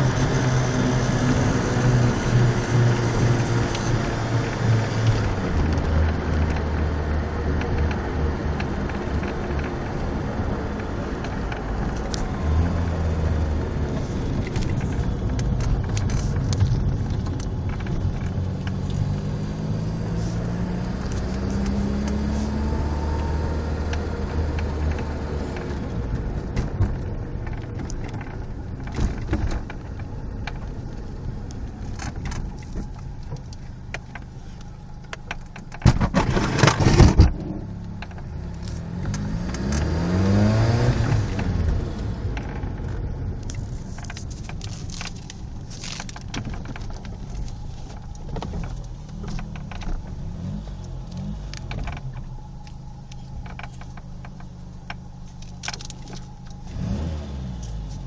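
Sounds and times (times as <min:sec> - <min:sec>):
car engine with exhaust leak: 0:00.0 - 0:58.0.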